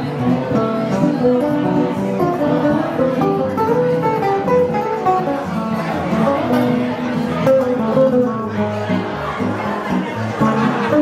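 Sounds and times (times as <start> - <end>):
acoustic guitars playing bossa nova: 0.0 - 11.0.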